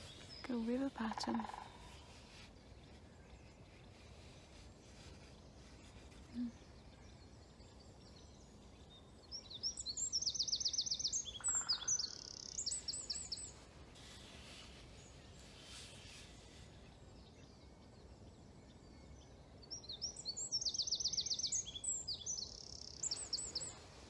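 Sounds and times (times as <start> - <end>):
songbird trilling song: 0.0 - 4.3, 4.9 - 14.2, 16.5 - 24.0.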